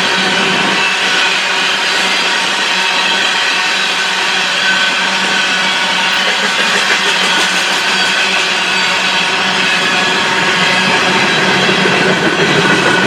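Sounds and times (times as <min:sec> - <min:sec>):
freight train cars rolling on rails: 0:00.1 - 0:13.0.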